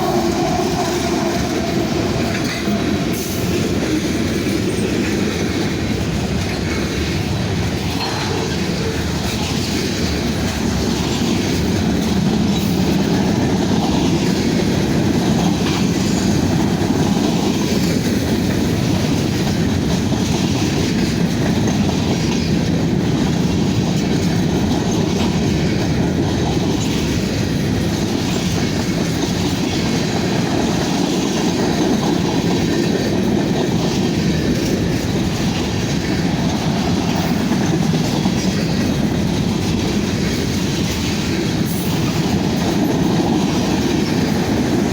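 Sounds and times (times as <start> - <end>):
freight train wheels rumbling: 0.0 - 44.9.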